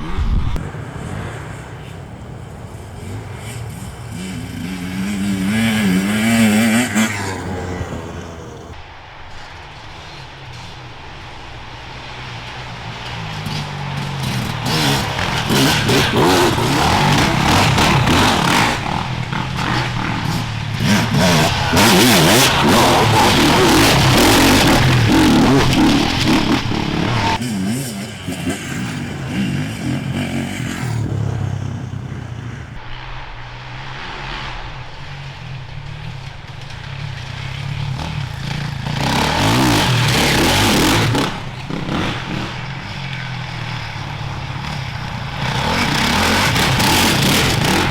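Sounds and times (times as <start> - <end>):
motorcycle engine revving: 0.0 - 8.8, 10.1 - 47.9.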